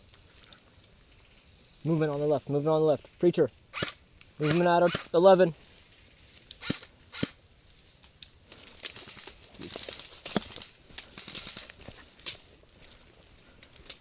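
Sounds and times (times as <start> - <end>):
rustling through dry brush: 0.0 - 14.0.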